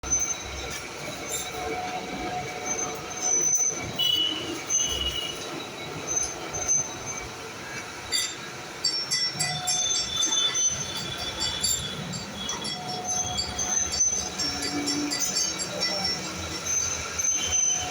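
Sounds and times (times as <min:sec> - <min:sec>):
high-pitched metallic squeals: 0:00.0 - 0:17.9.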